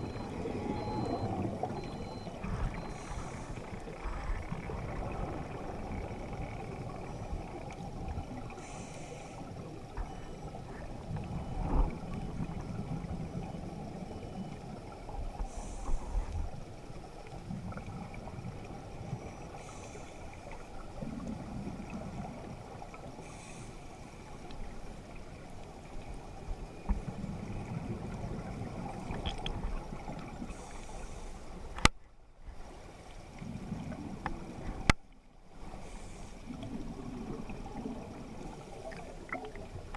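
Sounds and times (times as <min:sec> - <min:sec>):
underwater water rushing: 0:00.0 - 0:39.9.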